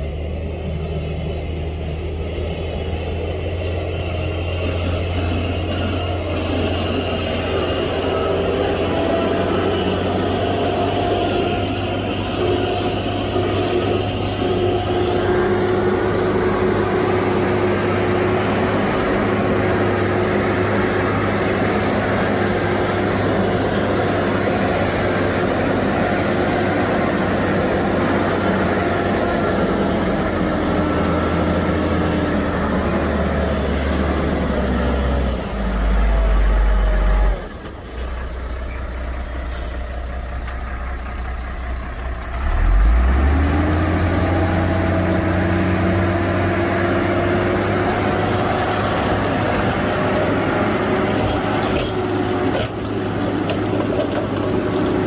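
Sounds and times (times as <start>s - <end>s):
heavy diesel engine working: 0.0s - 55.0s.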